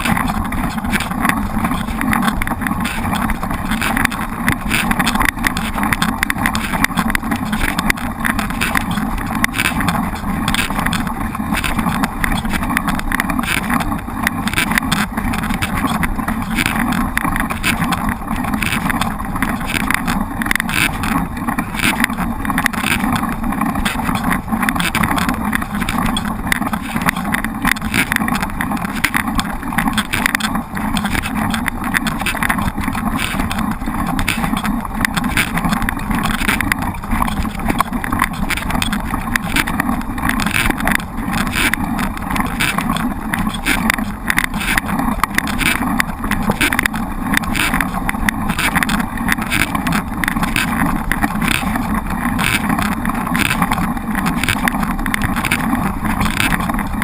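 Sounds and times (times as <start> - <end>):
bike knocking and rattling: 0.0 - 57.0.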